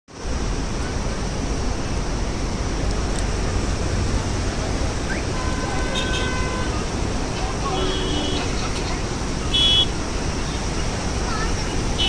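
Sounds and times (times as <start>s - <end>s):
river rushing: 0.1s - 12.0s
deep low rumble of water: 0.2s - 11.9s.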